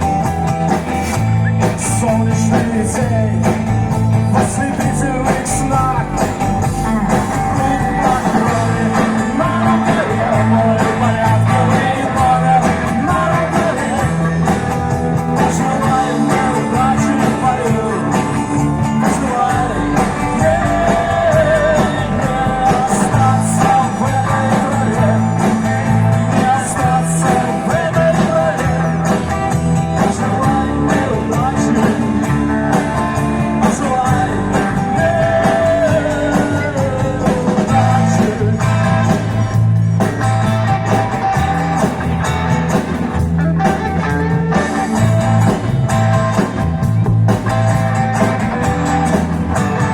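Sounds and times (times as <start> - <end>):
pop-rock band playing: 0.0 - 49.9.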